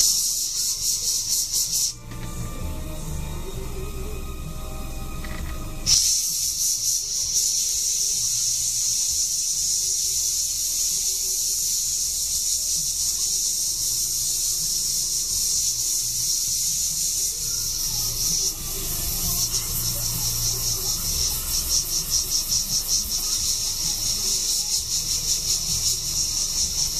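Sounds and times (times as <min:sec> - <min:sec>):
airbrush hissing: 0:00.0 - 0:26.9.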